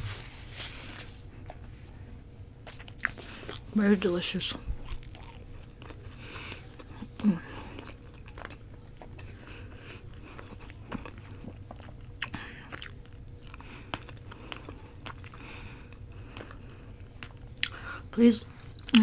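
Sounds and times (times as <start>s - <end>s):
chewing food: 2.7s - 3.7s, 4.5s - 19.0s.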